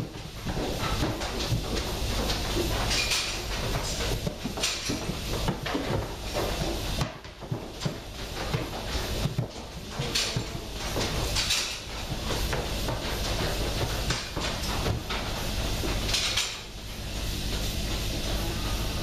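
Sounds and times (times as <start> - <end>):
goat hooves clattering on platform: 0.0 - 16.2
low machine hum: 0.0 - 19.0.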